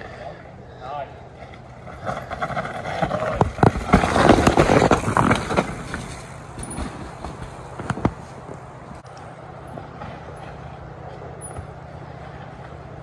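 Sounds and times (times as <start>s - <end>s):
bike tyres scrubbing through dirt: 1.7s - 13.0s
bike knocks and rattles: 2.0s - 13.0s.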